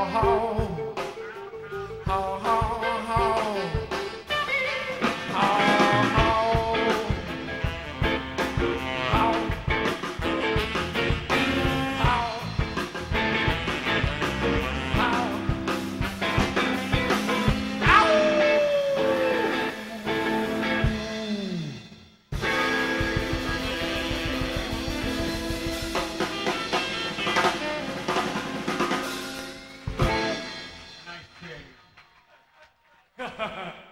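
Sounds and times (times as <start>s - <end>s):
held guitar and bass chords: 0.0s - 31.8s
electric blues band playing: 0.0s - 32.3s
drum kit fills and cymbal hits: 0.0s - 33.9s.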